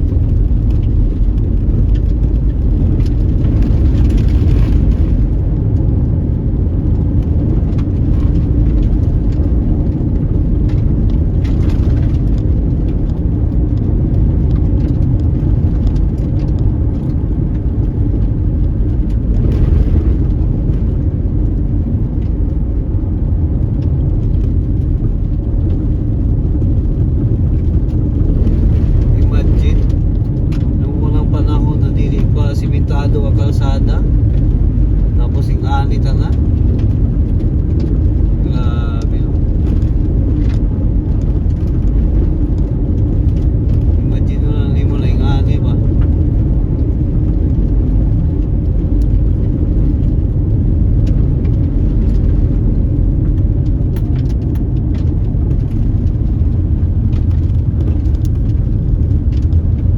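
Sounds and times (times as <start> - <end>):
car driving road noise: 0.0 - 59.9.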